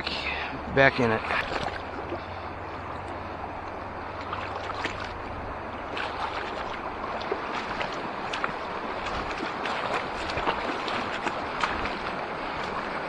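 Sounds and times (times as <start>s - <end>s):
river water rushing: 0.0s - 13.0s
short water splashes: 0.0s - 13.0s.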